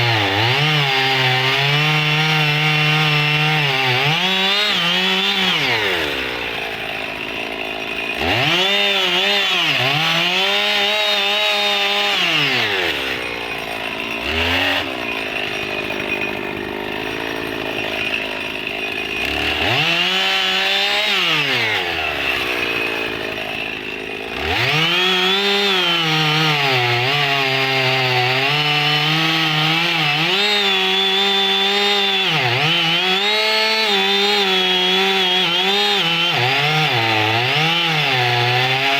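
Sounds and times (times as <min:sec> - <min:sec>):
chainsaw cutting logs: 0:00.0 - 0:38.9
chainsaw revving: 0:00.0 - 0:38.9.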